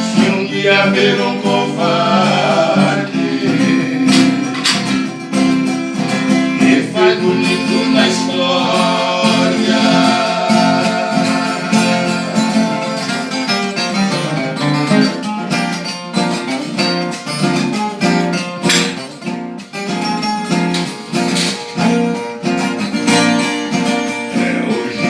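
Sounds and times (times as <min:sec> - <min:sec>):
plucked and strummed guitars: 0:00.0 - 0:25.0.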